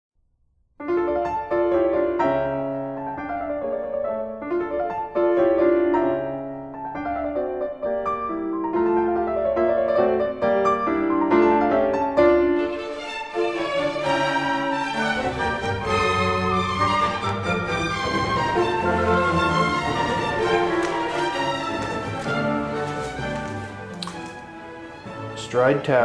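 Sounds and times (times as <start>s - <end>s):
piano melody: 0.8s - 26.0s.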